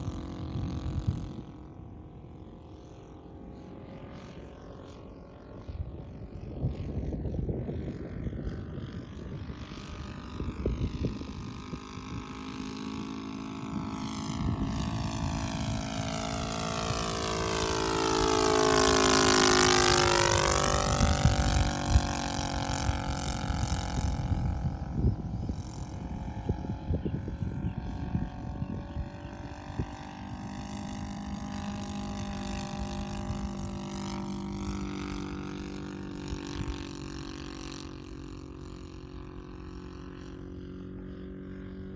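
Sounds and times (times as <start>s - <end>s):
model plane engine droning: 0.0s - 41.9s
wind rumbling on microphone: 0.0s - 41.9s.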